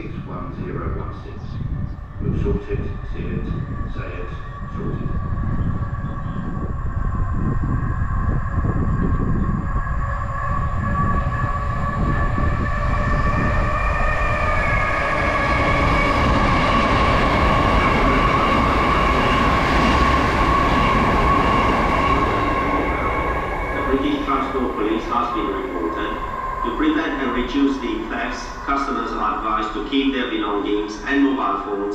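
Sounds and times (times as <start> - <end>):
passenger train passing: 0.0 - 31.9
steady high whine: 0.0 - 31.9
train wheels rumbling on rails: 0.0 - 31.9.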